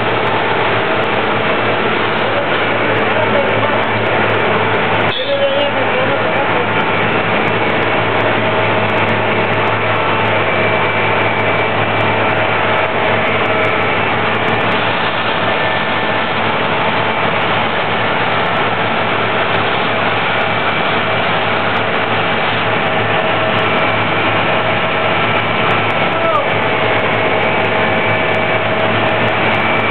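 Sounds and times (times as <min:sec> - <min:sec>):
paving machine engine droning: 0:00.0 - 0:29.9.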